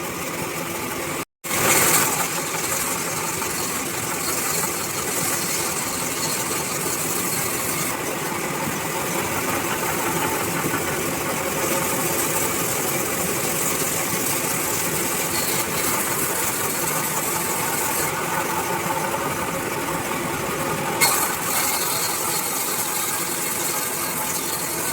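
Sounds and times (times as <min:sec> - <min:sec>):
bandsaw cutting wood: 0:01.5 - 0:24.9.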